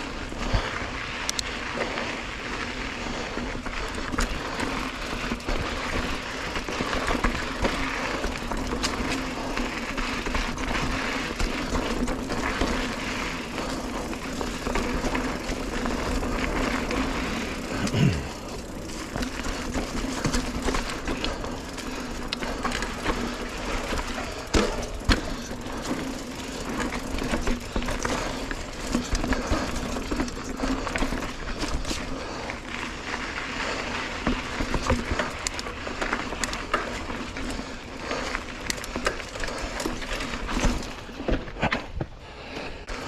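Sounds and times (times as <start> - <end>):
bike knocking and rattling: 0.0 - 43.0
bike tyre and wind rush: 0.0 - 43.0.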